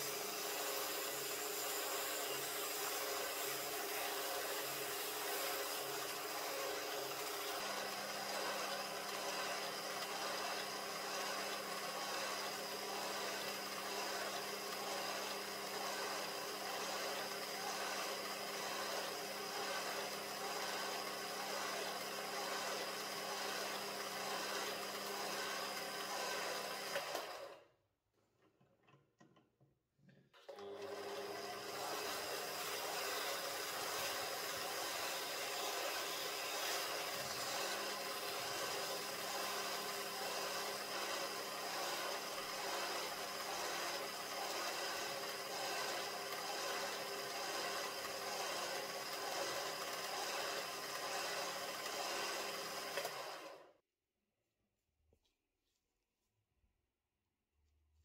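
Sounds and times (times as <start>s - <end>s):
abrasive pad sanding shaft: 0.0s - 27.0s, 31.6s - 53.2s
lathe humming: 0.0s - 27.4s, 30.6s - 53.6s.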